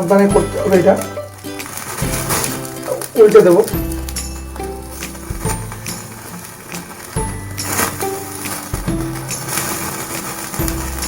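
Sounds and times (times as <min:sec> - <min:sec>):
instrumental music with bass notes: 0:00.0 - 0:11.0.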